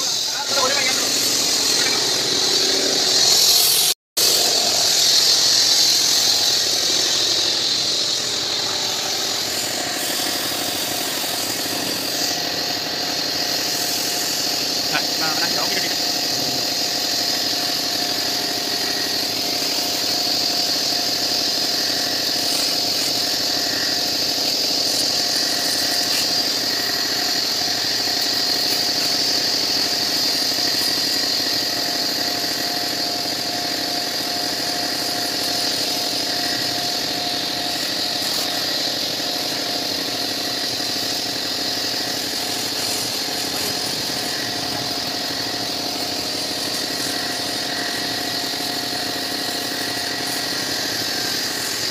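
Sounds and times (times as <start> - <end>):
pressure washer running: 0.0 - 51.9
water jet hissing against metal: 0.0 - 51.9.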